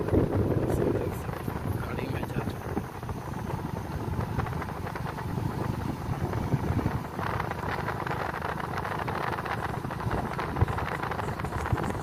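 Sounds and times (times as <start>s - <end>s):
wind buffeting microphone: 0.0s - 12.0s
crackling rattle: 1.0s - 12.0s.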